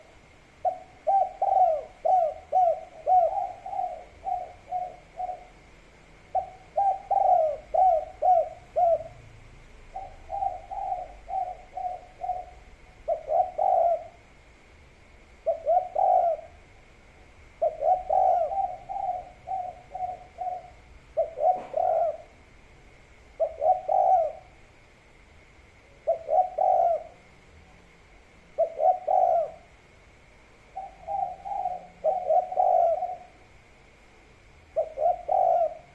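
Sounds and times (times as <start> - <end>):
dove cooing: 0.0 - 14.4, 15.4 - 16.7, 17.5 - 22.5, 23.3 - 24.7, 25.8 - 27.3, 28.5 - 29.9, 30.6 - 33.5, 34.6 - 35.9
faint high hum: 0.0 - 35.9.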